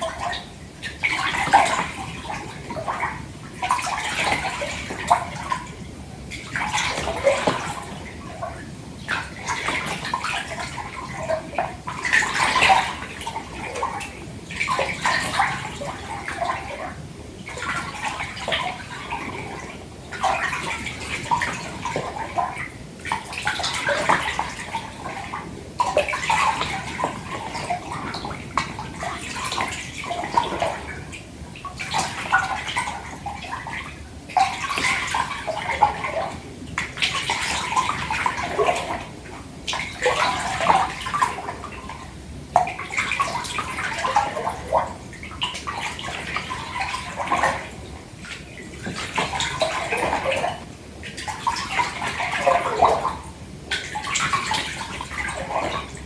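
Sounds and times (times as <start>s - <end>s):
water splashing in bathtub: 0.0s - 56.0s.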